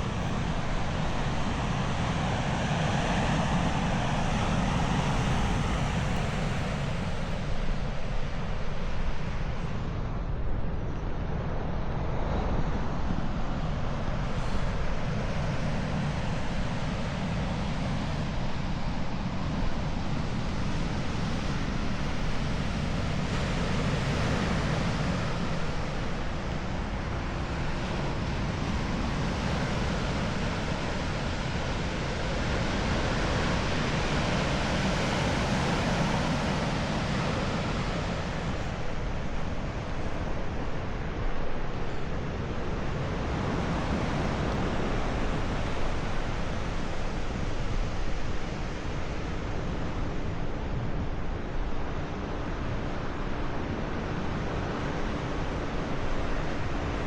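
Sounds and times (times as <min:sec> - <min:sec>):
ocean surf: 0:00.0 - 0:10.0, 0:11.7 - 0:57.0
wind: 0:00.0 - 0:57.0.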